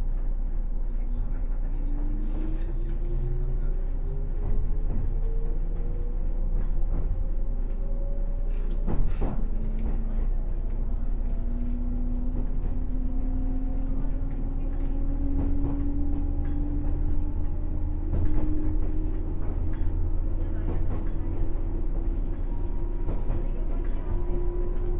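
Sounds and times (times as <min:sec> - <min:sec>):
low train rumble: 0:00.0 - 0:24.9.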